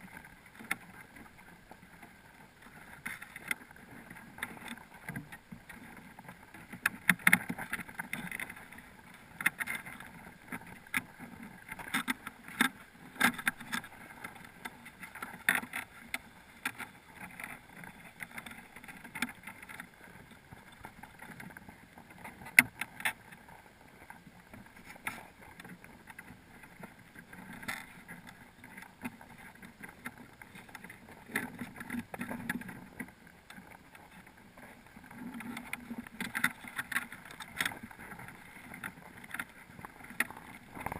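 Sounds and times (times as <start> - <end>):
muffled water rumble: 0.0 - 40.9.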